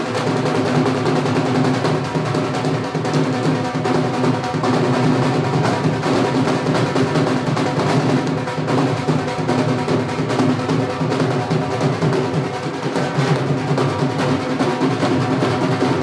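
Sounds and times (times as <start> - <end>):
drums beaten fast: 0.0 - 16.0.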